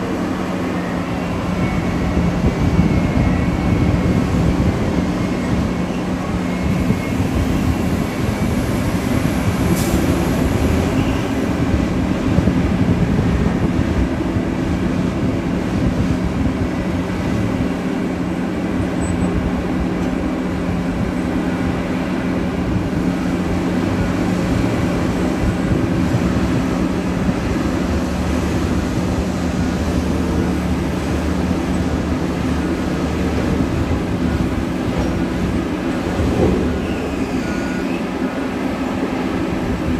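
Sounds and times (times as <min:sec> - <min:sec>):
large diesel engines running: 0:00.0 - 0:39.9.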